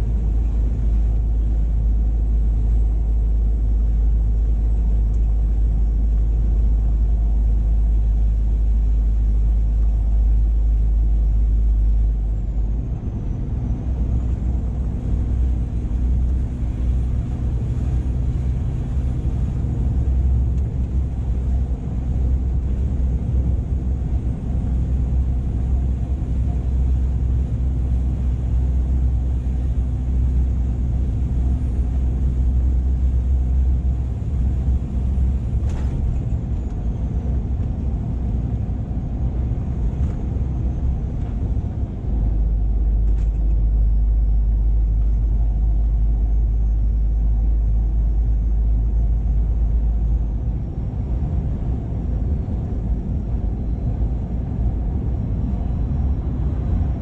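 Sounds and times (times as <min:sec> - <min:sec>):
road noise: 0:00.0 - 0:57.0
truck diesel engine rumbling: 0:00.0 - 0:57.0.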